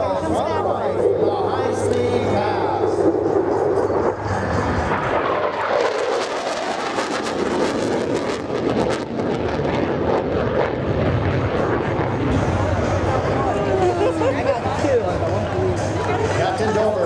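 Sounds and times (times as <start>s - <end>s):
jet engine roaring past: 0.0s - 17.0s.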